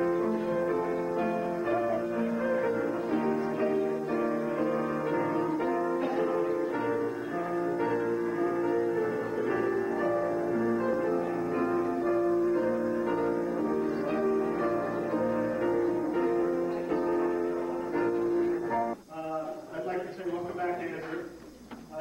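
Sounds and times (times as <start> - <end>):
keyboard playing slow chords: 0.0 - 19.0.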